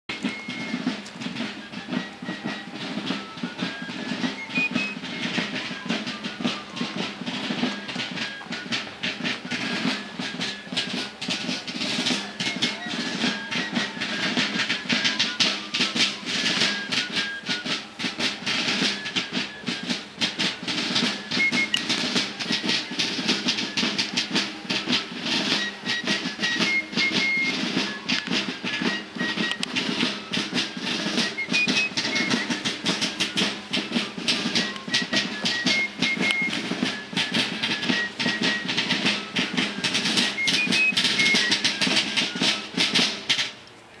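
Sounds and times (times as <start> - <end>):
fife melody: 0.1 - 43.8
snare drum strokes: 0.1 - 44.0.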